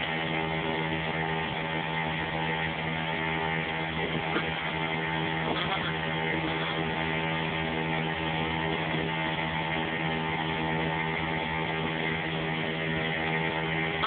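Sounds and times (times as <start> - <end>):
motorboat engine droning: 0.0 - 14.0.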